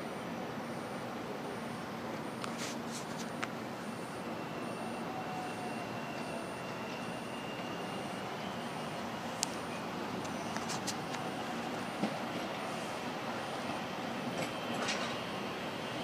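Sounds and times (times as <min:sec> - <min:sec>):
commuter train approaching: 0:00.0 - 0:16.0
faint high whine: 0:00.0 - 0:16.0.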